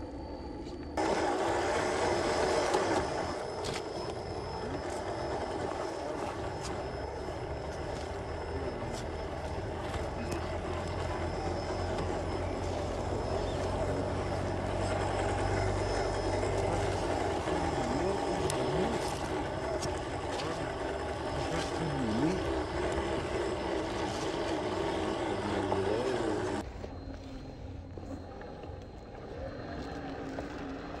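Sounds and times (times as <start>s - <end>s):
small electric motor whining: 0.0s - 31.0s.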